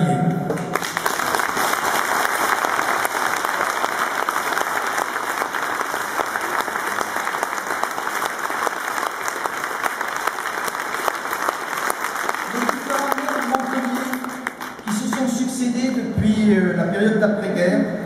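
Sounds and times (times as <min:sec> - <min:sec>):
audience applauding: 0:00.5 - 0:16.1.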